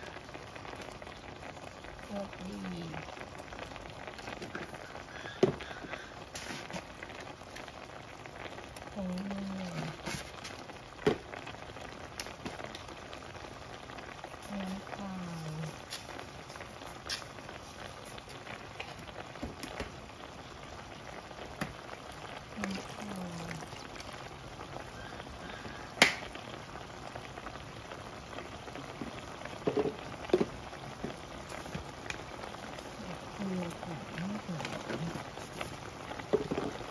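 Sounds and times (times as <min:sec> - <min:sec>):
sauce simmering with bubbling hiss: 0:00.0 - 0:36.9.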